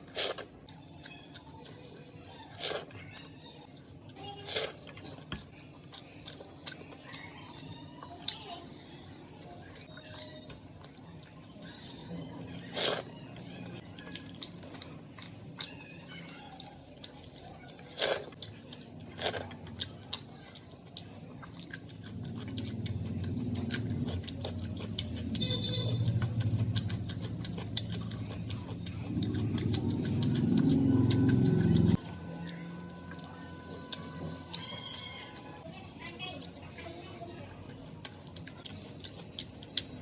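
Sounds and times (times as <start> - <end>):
person chewing food: 0.0 - 40.0.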